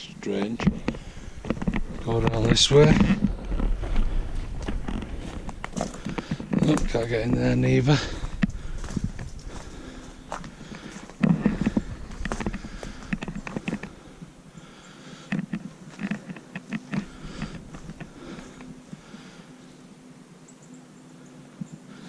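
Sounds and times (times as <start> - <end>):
footsteps on rough ground: 0.2 - 19.4.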